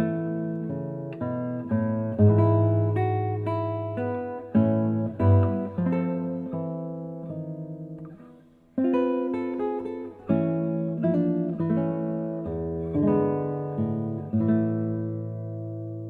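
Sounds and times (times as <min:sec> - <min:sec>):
acoustic guitar slow chords: 0:00.0 - 0:16.0.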